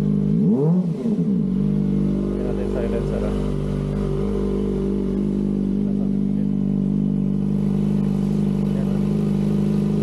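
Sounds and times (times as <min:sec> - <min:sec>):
motorcycle engine idling loudly: 0:00.0 - 0:00.4, 0:01.2 - 0:10.0.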